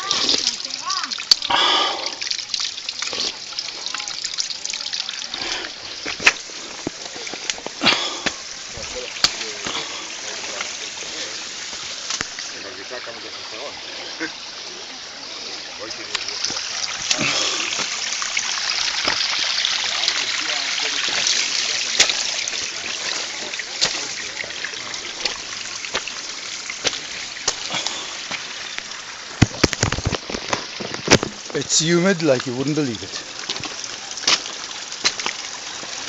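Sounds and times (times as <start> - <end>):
stream trickling over rocks: 0.0 - 36.0.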